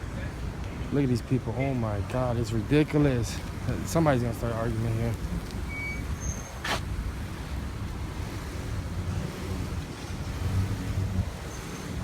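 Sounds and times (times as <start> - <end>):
car engines idling: 0.0 - 12.0
traffic rumble: 0.0 - 12.0.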